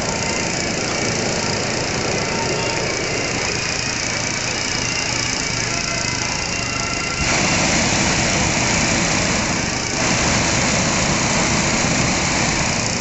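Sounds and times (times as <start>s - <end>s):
inflator fan engine running: 0.0s - 13.0s
propane burner rushing: 0.0s - 13.0s.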